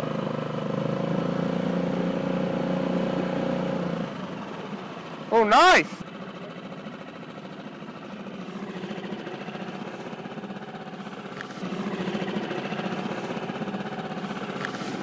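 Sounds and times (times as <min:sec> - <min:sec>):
small outboard motor running: 0:00.0 - 0:15.0.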